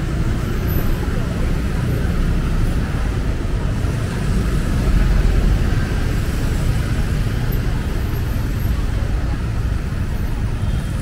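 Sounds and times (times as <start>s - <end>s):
street traffic engines rumbling: 0.0s - 11.0s.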